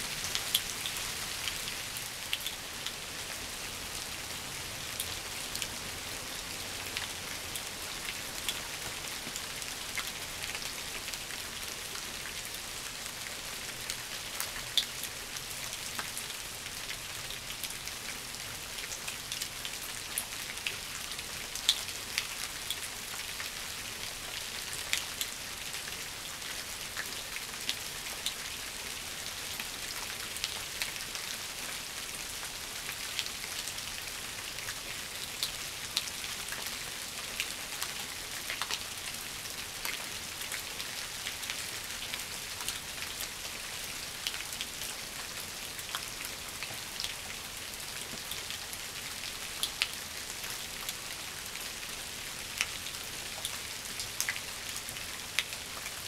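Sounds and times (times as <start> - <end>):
rain on foliage and leaves: 0.0 - 56.0.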